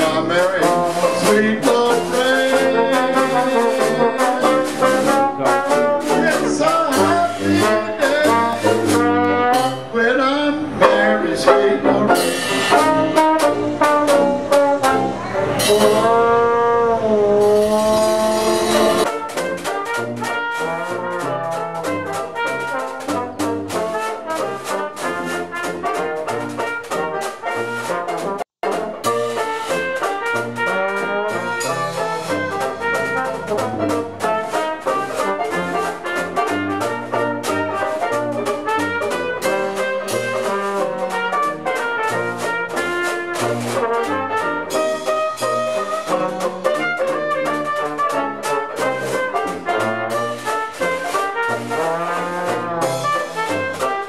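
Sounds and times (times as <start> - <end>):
dixieland jazz band playing: 0.0 - 54.0.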